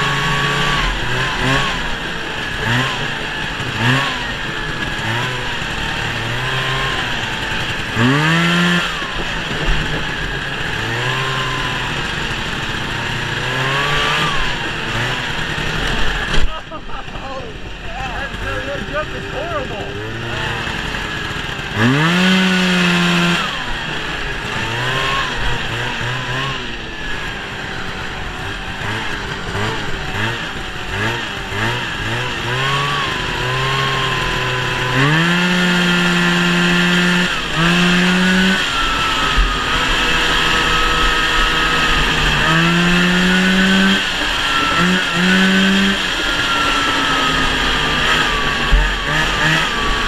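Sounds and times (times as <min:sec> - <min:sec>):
snowmobile engine revving: 0:00.0 - 0:50.0.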